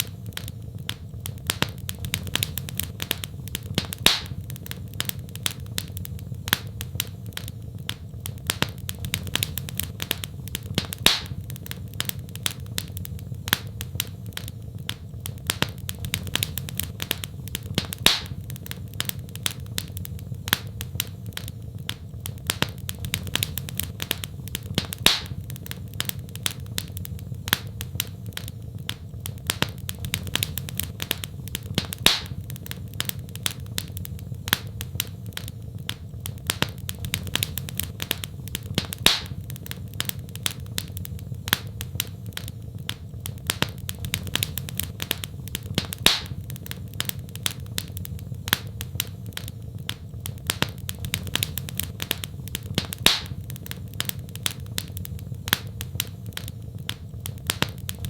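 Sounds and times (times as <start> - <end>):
low fire rumble: 0.0 - 58.0
wood fire crackling: 0.0 - 58.0.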